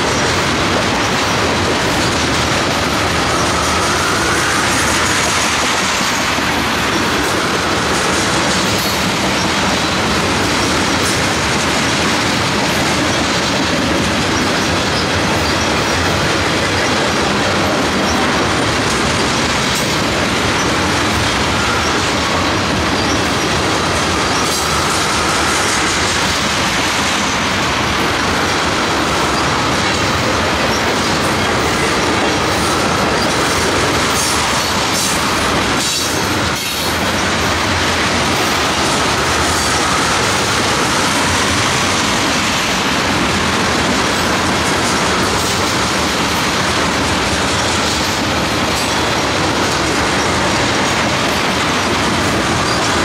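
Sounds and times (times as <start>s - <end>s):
steel wheels on rails: 0.0s - 53.0s.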